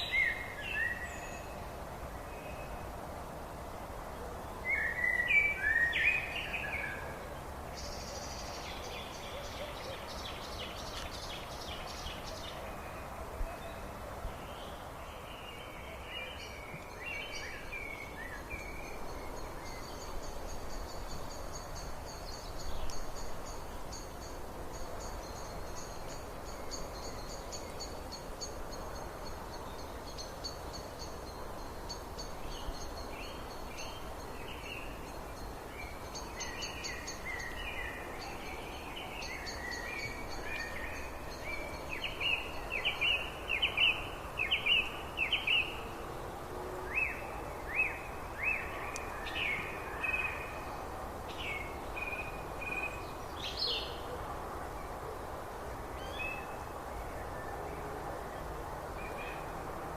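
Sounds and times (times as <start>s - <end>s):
birds singing: 0.0s - 2.8s, 4.4s - 46.2s, 46.9s - 54.3s
steady background hiss: 0.0s - 59.9s.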